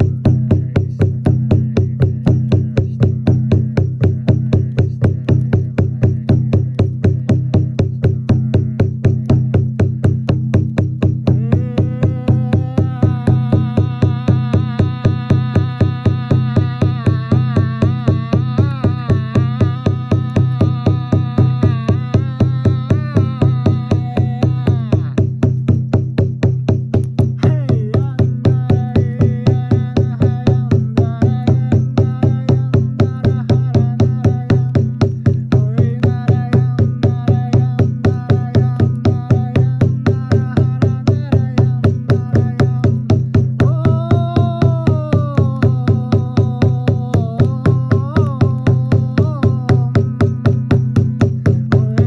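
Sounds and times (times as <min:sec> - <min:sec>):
fast drum pulse: 0:00.0 - 0:52.0.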